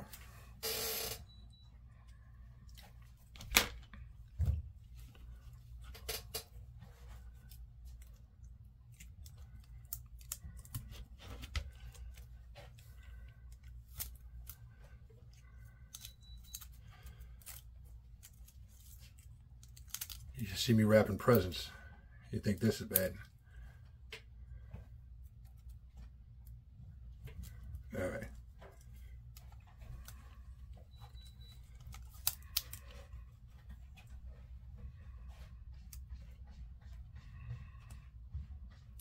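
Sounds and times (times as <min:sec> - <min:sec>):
fingers clicking and crinkling tape: 0:02.0 - 0:39.0.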